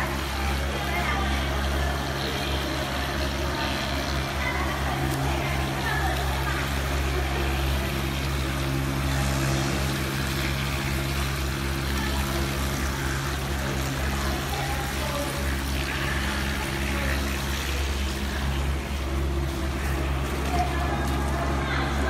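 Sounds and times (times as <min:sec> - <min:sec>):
machine motor hum: 0:00.0 - 0:22.0.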